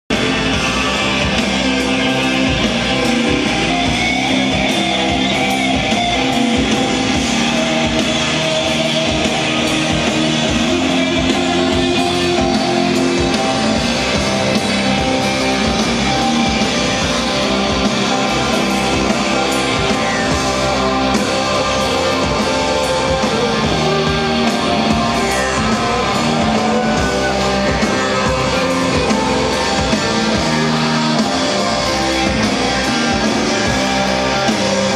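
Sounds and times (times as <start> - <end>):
keyboard: 0.0 - 34.9
drum kit: 0.1 - 34.9
electric guitars: 0.1 - 34.9.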